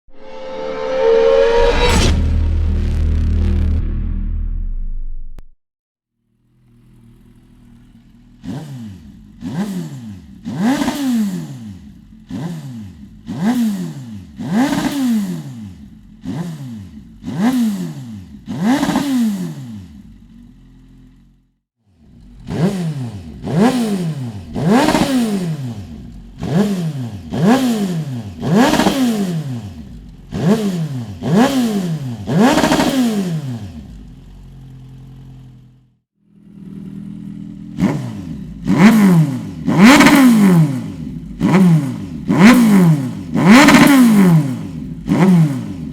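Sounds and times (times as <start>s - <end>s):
motorcycle engine revving: 6.2s - 45.9s.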